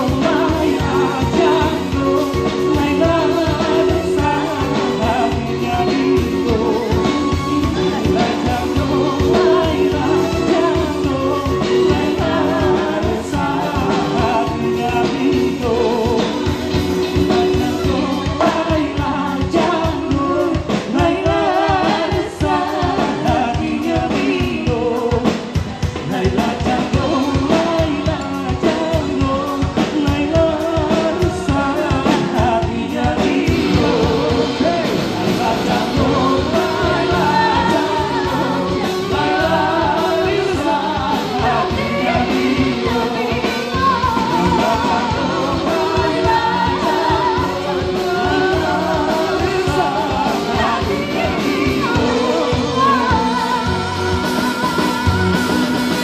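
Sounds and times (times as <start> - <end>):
electric bass and guitar: 0.0 - 56.0
steady drum beat: 0.0 - 56.0
voices singing together: 0.0 - 56.0.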